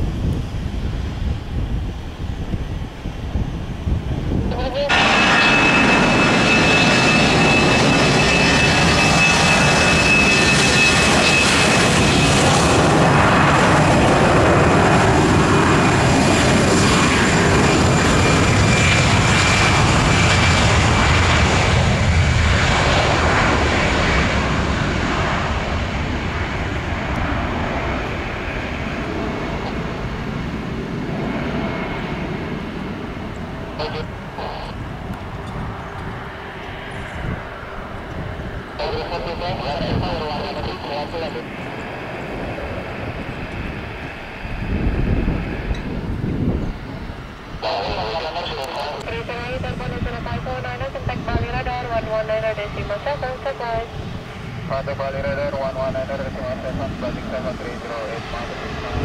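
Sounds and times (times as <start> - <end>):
airliner engines whining and rumbling: 0.0 - 59.0.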